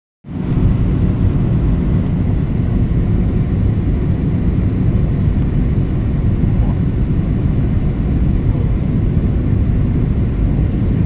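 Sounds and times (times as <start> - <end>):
jet engines rumbling: 0.3 - 11.0
rushing airflow: 0.3 - 11.0.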